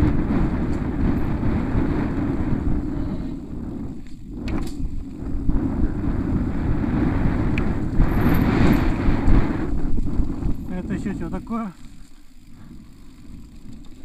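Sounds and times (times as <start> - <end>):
bike tyres rumbling over dirt: 0.0 - 14.0
wind buffeting microphone: 0.0 - 14.0.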